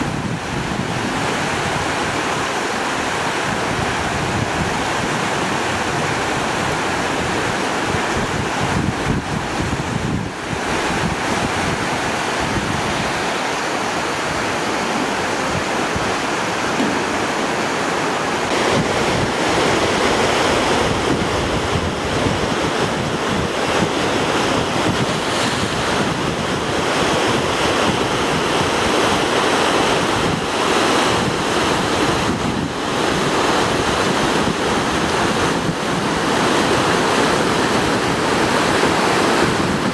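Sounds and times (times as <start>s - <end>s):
floodwater rushing over rocks: 0.0s - 39.9s
wind buffeting microphone: 0.0s - 39.9s.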